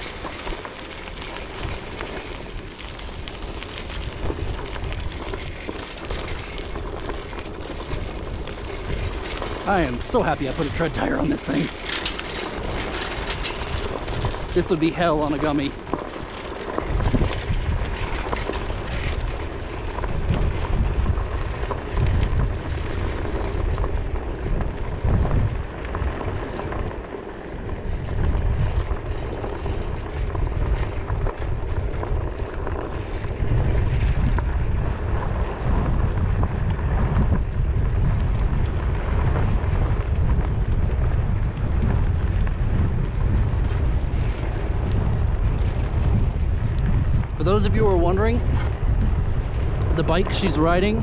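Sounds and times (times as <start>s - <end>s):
tyre rumbling on dirt: 0.0s - 51.0s
wind buffeting microphone: 0.0s - 51.0s.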